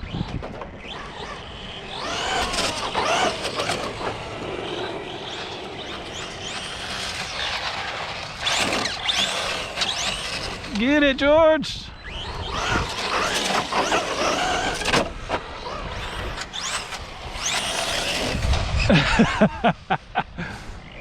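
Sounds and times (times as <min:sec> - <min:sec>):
electric motors whining: 0:00.0 - 0:11.2, 0:11.9 - 0:19.3.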